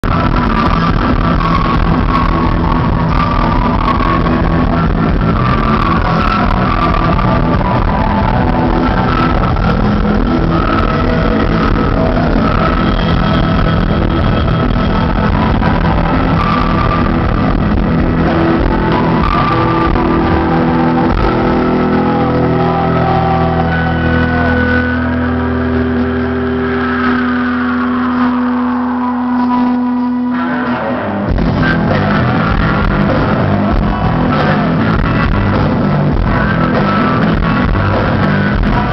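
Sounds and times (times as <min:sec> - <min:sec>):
live rock band with electric guitars: 0:00.0 - 0:38.9.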